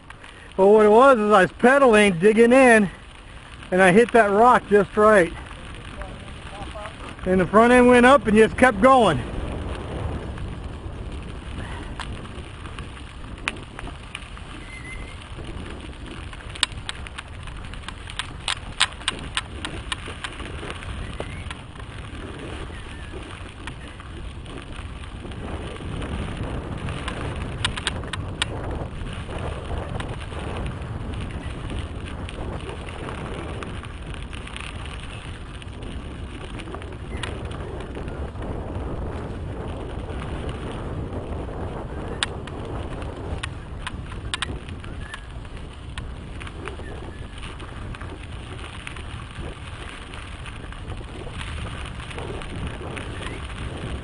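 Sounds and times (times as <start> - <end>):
bike clicking and rattling: 0.0 - 54.0
tyres rumbling on dirt: 0.0 - 54.0.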